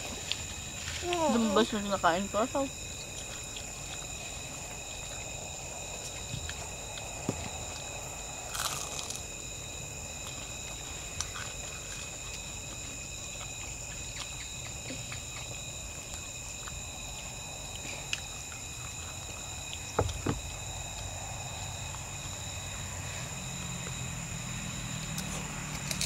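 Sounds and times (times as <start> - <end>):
night insects chirping: 0.0 - 26.0
people eating with crunches: 0.0 - 26.0
rustle: 0.0 - 26.0.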